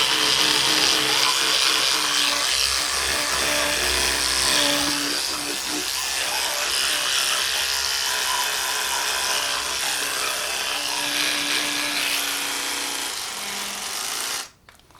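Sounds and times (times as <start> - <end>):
electric toothbrush buzzing: 0.0 - 14.6.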